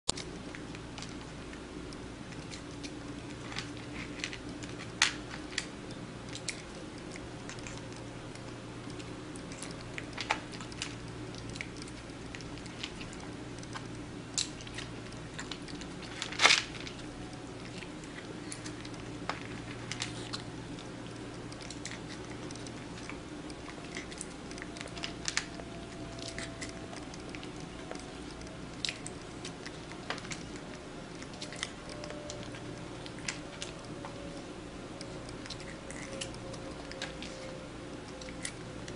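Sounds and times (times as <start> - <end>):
faint steady hum: 0.0 - 38.9
kitten chewing food crunches: 0.1 - 38.9.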